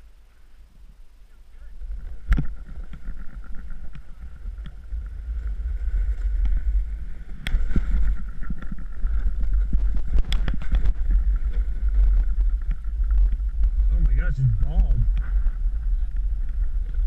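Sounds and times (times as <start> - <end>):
wind buffeting microphone: 1.6 - 17.0.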